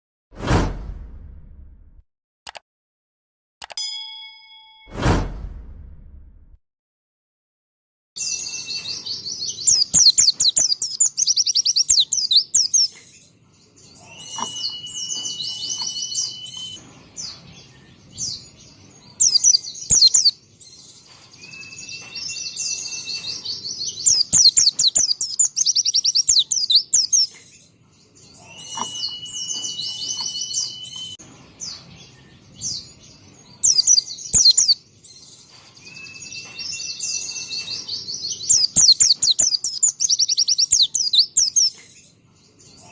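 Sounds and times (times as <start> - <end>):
bird twittering trills: 8.2 - 42.9.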